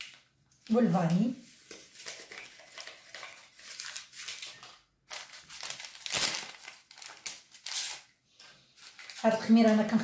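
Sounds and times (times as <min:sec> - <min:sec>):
paper sachet crinkling: 0:00.0 - 0:10.0.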